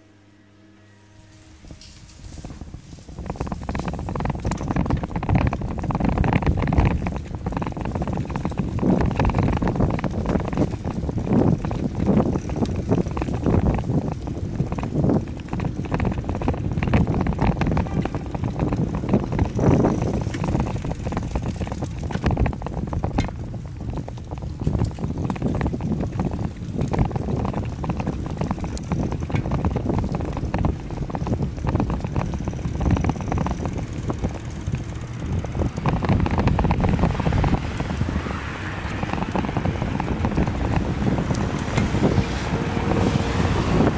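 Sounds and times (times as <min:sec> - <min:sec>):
bicycle knocks and rattles: 0:01.4 - 0:43.9
wind buffeting microphone: 0:01.5 - 0:43.9.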